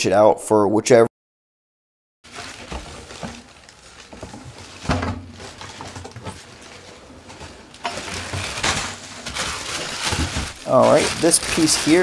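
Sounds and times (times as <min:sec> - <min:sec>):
plastic and cardboard rustling: 0:02.2 - 0:12.0.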